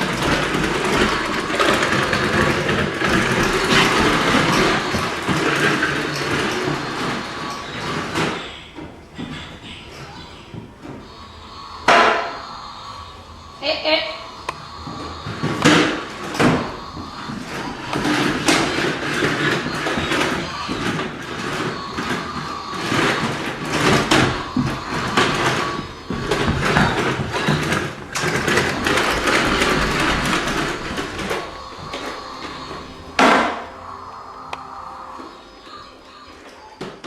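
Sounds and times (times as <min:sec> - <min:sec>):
clattering and bumping: 0:00.0 - 0:35.4
vacuum cleaner motor hum: 0:00.0 - 0:36.9.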